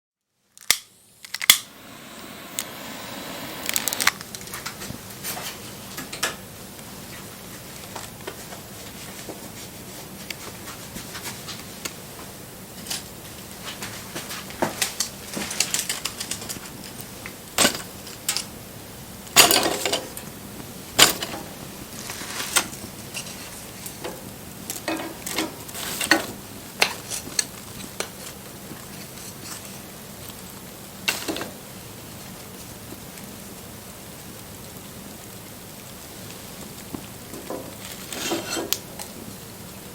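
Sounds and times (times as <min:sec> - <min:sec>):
wood fire crackling: 0:00.4 - 0:39.9.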